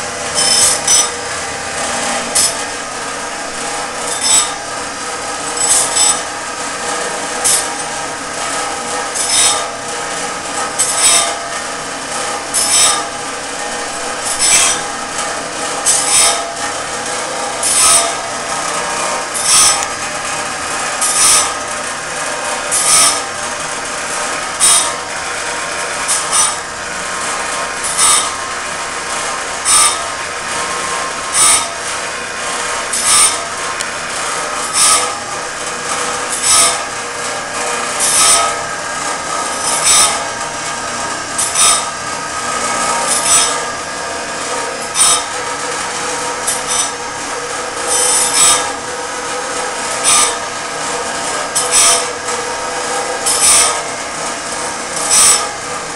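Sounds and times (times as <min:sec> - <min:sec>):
grinding rasp on saw teeth: 0:00.0 - 0:55.9
motor hum: 0:00.0 - 0:55.9.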